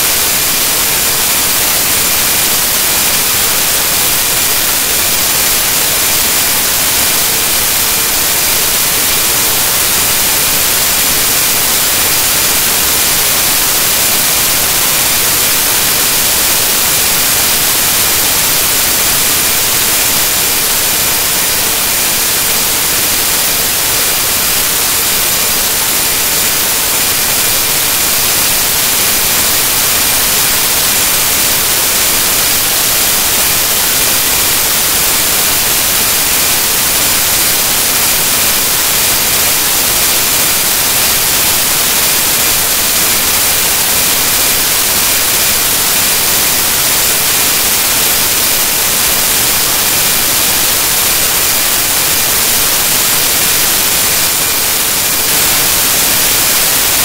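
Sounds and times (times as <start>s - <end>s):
loud static hiss: 0.0s - 57.0s.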